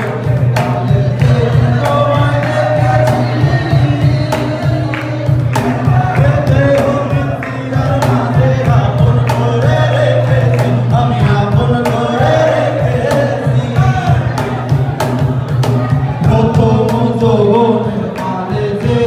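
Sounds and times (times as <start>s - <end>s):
cajon beaten by hand: 0.0s - 19.0s
men singing through a pa: 0.0s - 19.0s.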